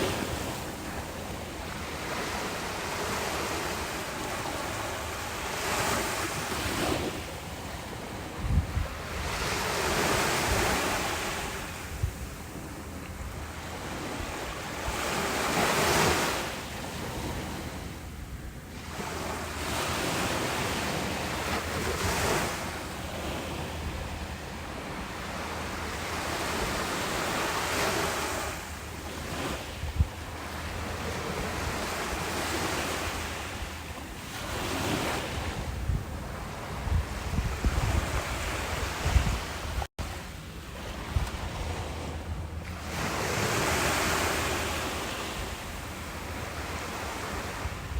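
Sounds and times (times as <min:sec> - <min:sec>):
small waves washing onto shore: 0:00.0 - 0:47.9
wind: 0:00.0 - 0:47.9.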